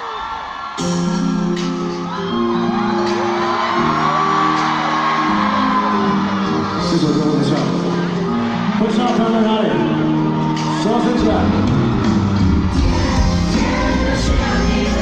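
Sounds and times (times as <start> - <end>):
crowd screaming and cheering: 0.0 - 15.0
live pop music with held chords: 0.0 - 15.0.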